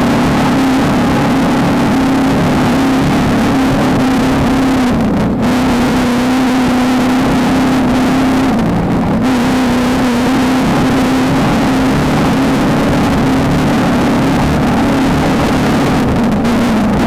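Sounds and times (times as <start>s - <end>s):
loud constant noise: 0.0s - 17.0s
race car engine revving high: 0.0s - 17.0s.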